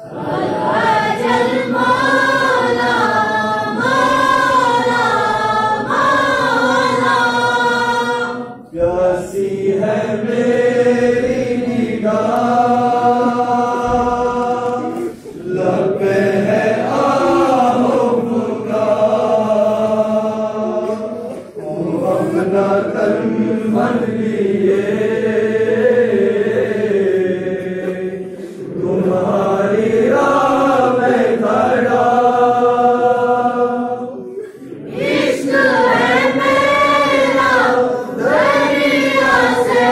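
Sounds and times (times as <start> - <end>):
male voices chanting in unison: 0.0 - 39.9.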